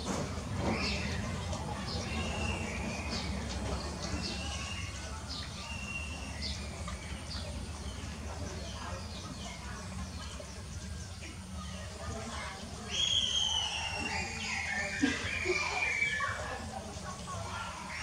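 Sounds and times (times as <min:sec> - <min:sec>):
small birds chirping: 0:00.6 - 0:18.0.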